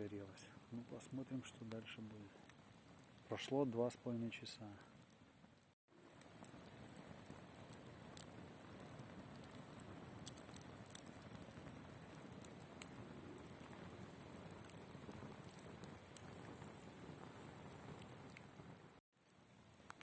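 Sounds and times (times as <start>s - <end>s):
campfire crackling and popping: 0.0s - 20.0s
faint fire hiss: 0.0s - 20.0s.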